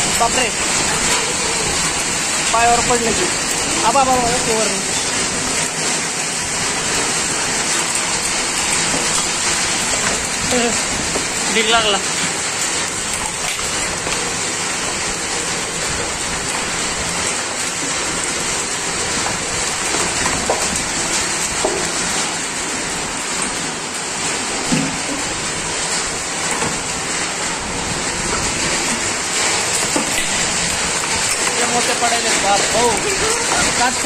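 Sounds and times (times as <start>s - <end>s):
heavy rain and hail on tiles: 0.0s - 34.0s.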